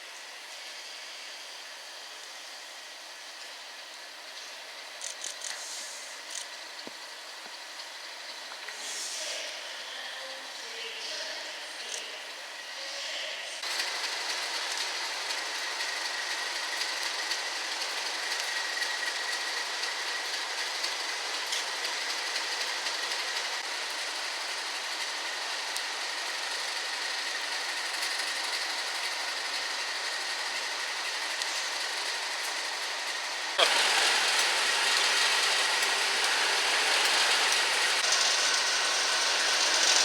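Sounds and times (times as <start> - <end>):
train rolling: 0.0 - 40.0.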